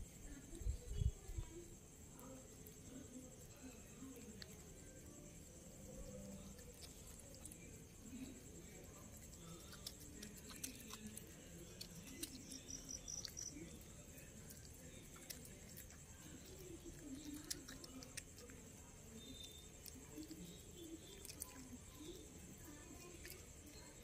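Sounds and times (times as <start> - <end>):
puppy chewing and licking: 2.2 - 24.0.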